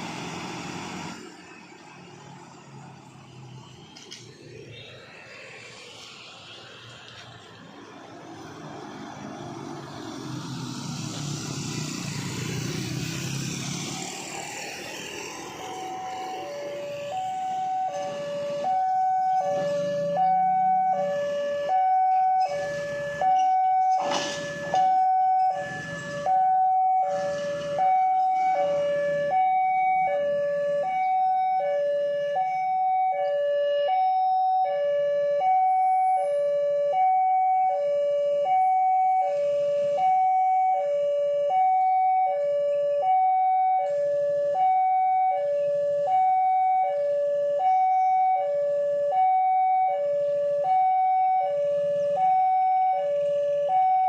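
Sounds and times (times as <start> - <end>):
emergency vehicle siren two-tone: 10.1 - 54.0.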